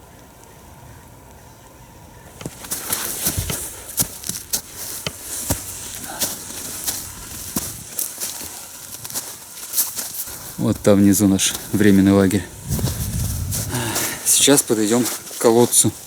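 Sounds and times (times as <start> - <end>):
footsteps crunching in snow: 2.2 - 16.0.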